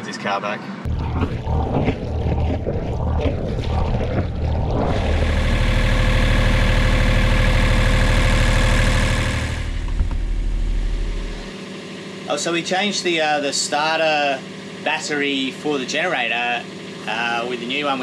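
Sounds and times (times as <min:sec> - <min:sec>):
diesel generator running: 0:00.9 - 0:18.0.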